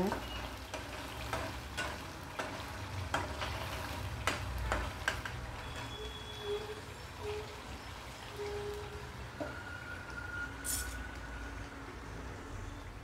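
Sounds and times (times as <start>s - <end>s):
paste sizzling in oil: 0.0s - 11.6s.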